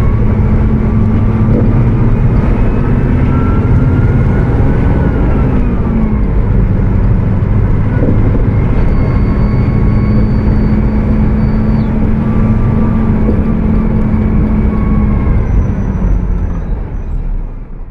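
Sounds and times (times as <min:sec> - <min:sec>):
bus engine running at high revs: 0:00.0 - 0:17.9.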